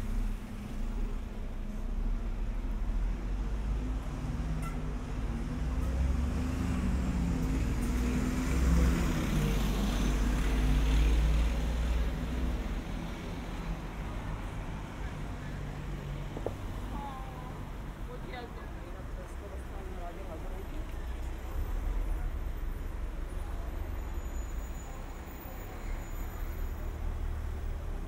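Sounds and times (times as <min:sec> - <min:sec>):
background street traffic: 0:00.0 - 0:28.0
bus engine rumble: 0:00.0 - 0:28.0.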